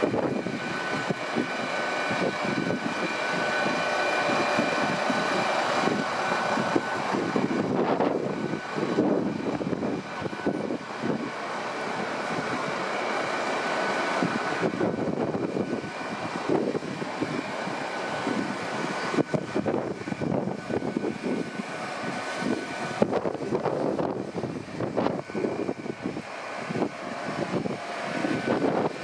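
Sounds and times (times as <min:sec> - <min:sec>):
train generator hum with whine: 0:00.0 - 0:29.0.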